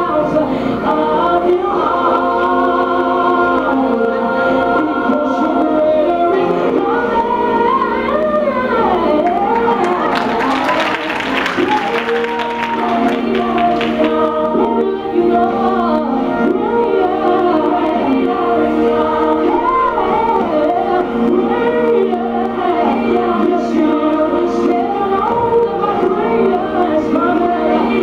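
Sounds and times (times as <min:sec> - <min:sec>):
choir singing over held chords: 0:00.0 - 0:28.0.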